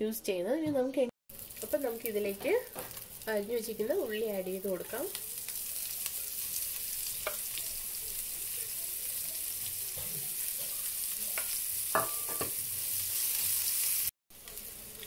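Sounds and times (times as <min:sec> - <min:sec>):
shallots sizzling in hot oil: 0:01.3 - 0:15.0.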